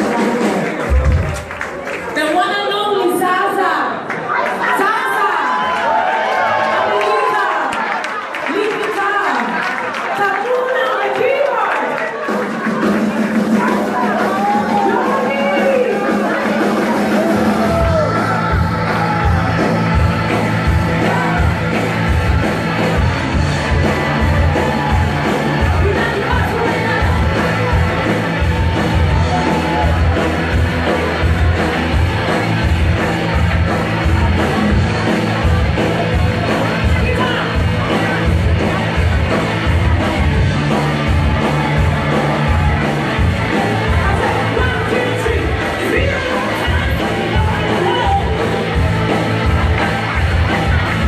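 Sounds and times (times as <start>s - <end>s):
live rock band playing: 0.0s - 3.6s, 11.0s - 51.0s.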